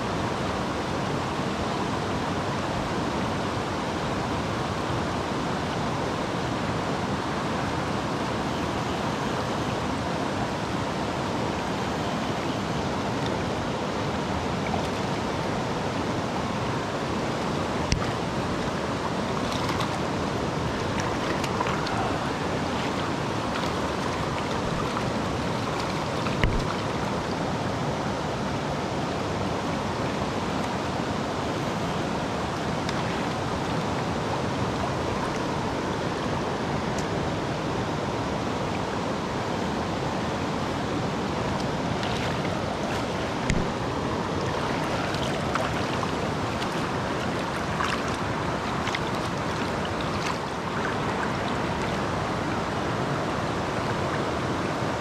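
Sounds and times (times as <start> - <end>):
river current rushing: 0.0 - 55.0.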